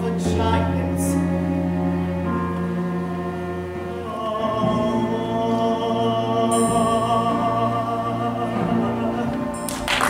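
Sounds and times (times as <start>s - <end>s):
orchestra playing sustained chords: 0.0s - 10.0s.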